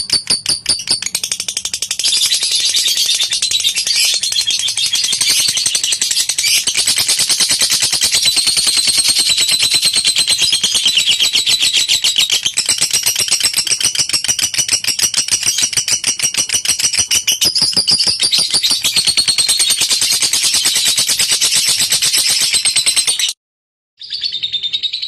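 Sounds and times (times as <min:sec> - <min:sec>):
lovebird chattering trill: 0:00.0 - 0:23.0.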